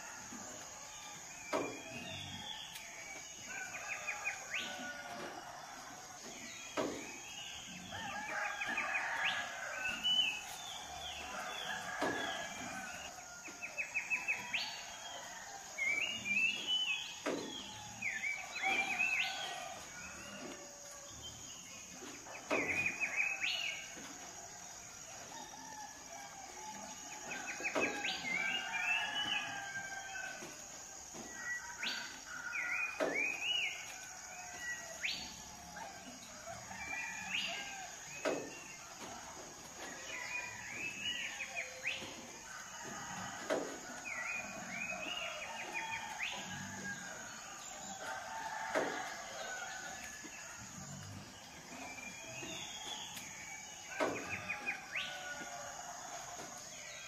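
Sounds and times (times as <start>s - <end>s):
rooster crowing: 0.0s - 21.1s, 24.9s - 57.0s
songbirds chirping and trilling: 0.0s - 57.0s.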